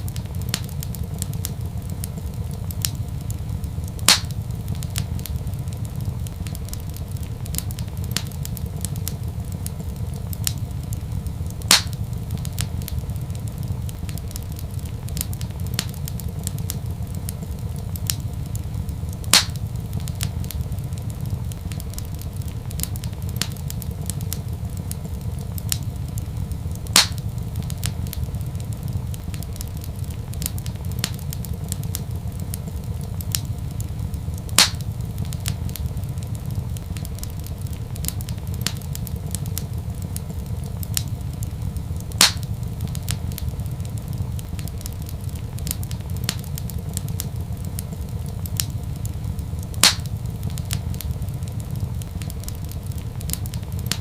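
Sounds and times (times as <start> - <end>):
loud sharp pops of fire: 0.0 - 54.0
wood fire crackling: 0.0 - 54.0.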